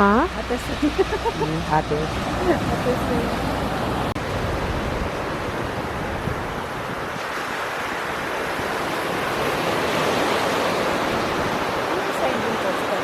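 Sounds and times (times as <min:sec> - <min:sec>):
ocean surf breaking on beach: 0:00.3 - 0:13.0.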